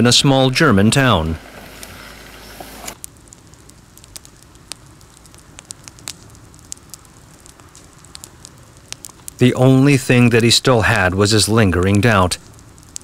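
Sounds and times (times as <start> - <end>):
soft hiss: 0.0 - 13.0
fire crackling and popping: 0.1 - 13.0.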